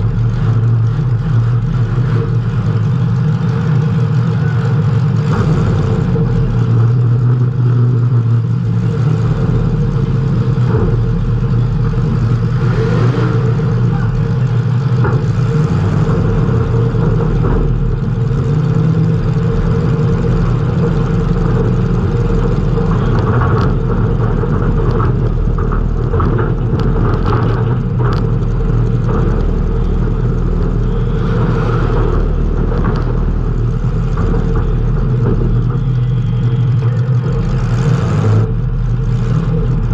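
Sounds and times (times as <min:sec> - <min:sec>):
race car engine running hard: 0:00.0 - 0:39.9
sharp knocks and rattles: 0:00.0 - 0:39.9.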